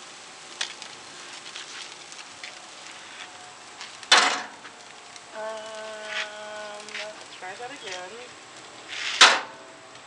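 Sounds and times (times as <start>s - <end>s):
small pops and crackles: 0.0s - 10.0s
steaks sizzling on a grill: 0.0s - 10.0s.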